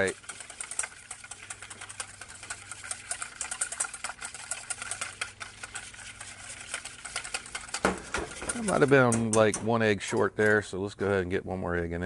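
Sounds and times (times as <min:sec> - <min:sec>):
wire whisk beating in metal bowl: 0:00.0 - 0:10.3.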